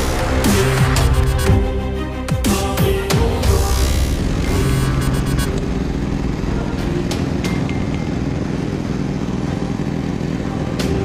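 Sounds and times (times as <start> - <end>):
snowblower running: 0.0 - 2.4, 3.0 - 11.0.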